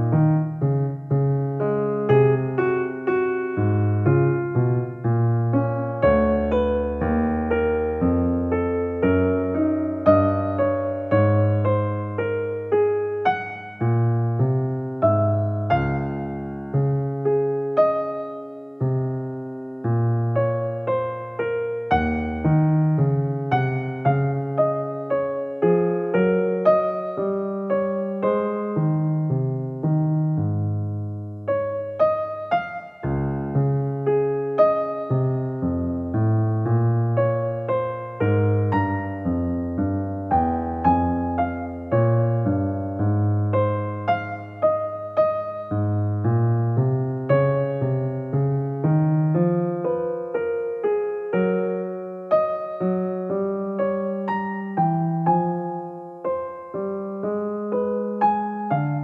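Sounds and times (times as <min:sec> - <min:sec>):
gentle piano music: 0:00.0 - 0:59.0.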